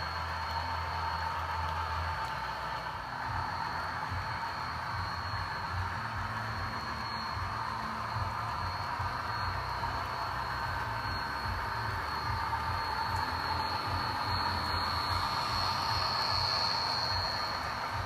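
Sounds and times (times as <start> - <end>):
model trains humming on track: 0.0 - 18.0
thin high whine: 0.0 - 18.0.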